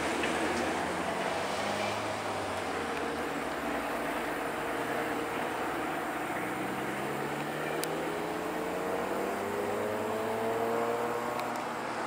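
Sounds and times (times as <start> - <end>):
diesel locomotive pulling away: 0.0 - 12.0.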